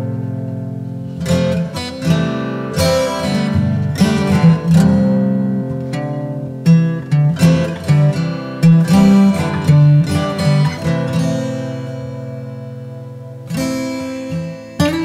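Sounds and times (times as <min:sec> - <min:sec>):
acoustic guitar strummed and plucked: 0:00.0 - 0:15.0.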